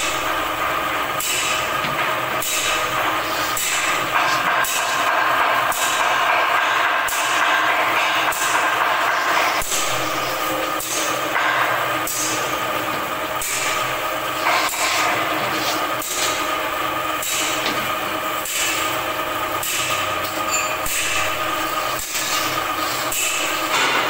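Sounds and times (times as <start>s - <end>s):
machine running with held tones: 0.0s - 24.0s.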